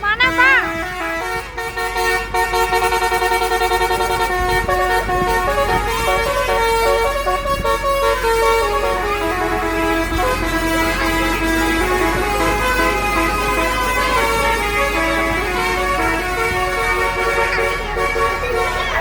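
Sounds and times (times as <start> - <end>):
musical air horn playing tune: 0.0 - 19.0
steady low rumble: 0.0 - 19.0.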